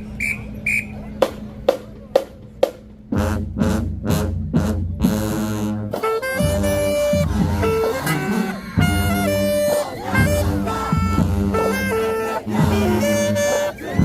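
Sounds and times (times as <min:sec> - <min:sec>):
marching band playing chords: 0:00.0 - 0:14.0.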